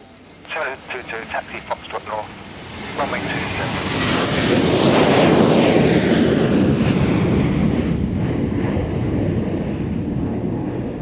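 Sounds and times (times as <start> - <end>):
plane engines roaring past: 0.0 - 11.0.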